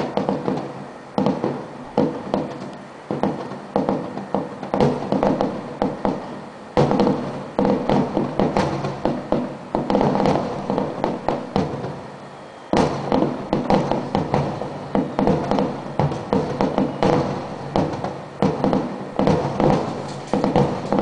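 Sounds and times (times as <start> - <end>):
firework shells bursting: 0.0 - 21.0.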